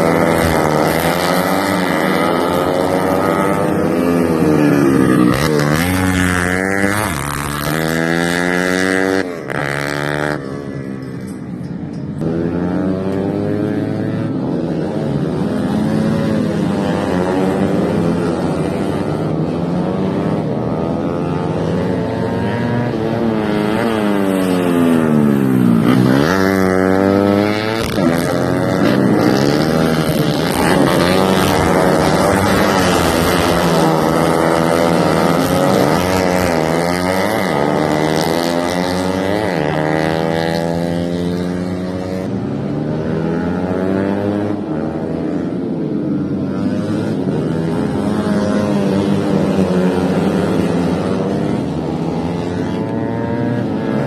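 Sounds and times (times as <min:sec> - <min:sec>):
racing motorcycles at full throttle: 0:00.0 - 0:54.0.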